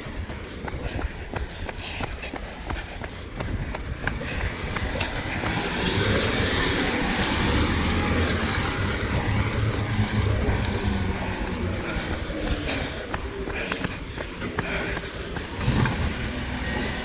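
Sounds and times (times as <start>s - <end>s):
tyre noise: 0.0s - 17.0s
vehicle engine hum: 0.0s - 17.0s.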